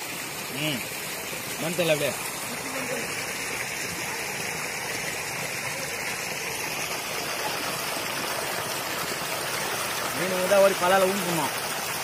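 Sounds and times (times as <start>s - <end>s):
stream water rushing over reed mat: 0.0s - 12.0s.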